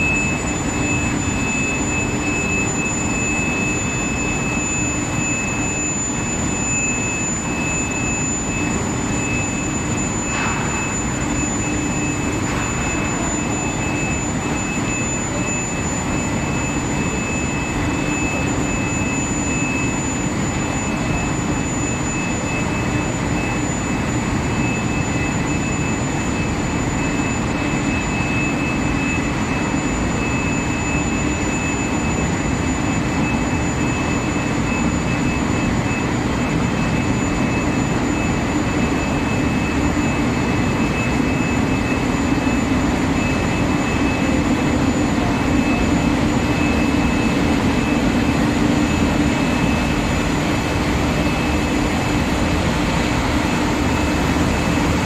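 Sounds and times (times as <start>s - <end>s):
high-pitched whines: 0.0s - 55.0s
machine hum: 0.0s - 55.0s.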